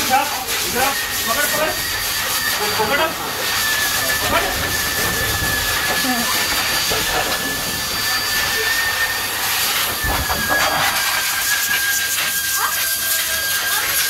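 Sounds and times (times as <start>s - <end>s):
motor whine: 0.0s - 14.0s
pet dryer rushing hiss: 0.0s - 14.0s.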